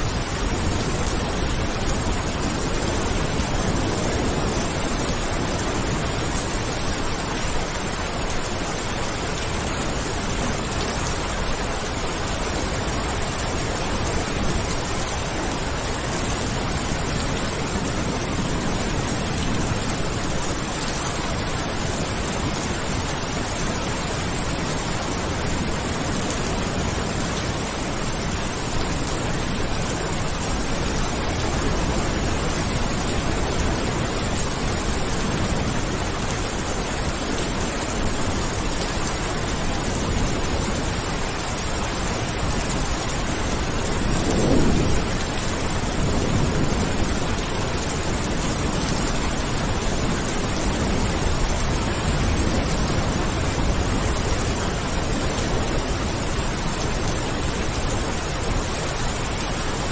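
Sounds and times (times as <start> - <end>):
heavy rainfall: 0.0 - 59.9
thunder rumbling: 9.1 - 58.7.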